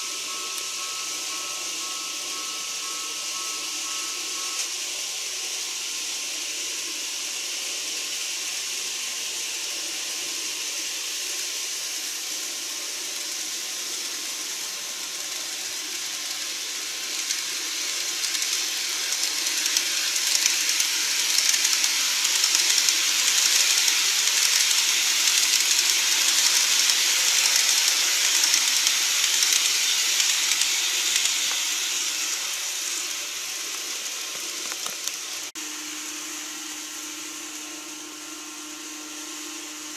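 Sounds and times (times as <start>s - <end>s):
model train wheels and motor hiss: 0.0s - 39.9s.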